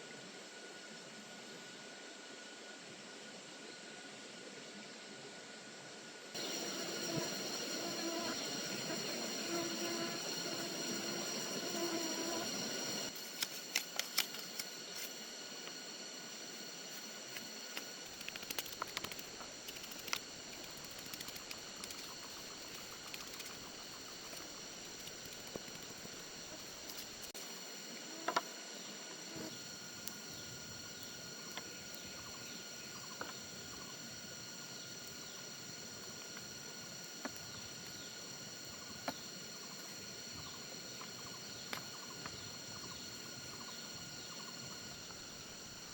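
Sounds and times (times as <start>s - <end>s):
high-pitched ringing tones: 6.4s - 13.3s, 14.9s - 45.9s.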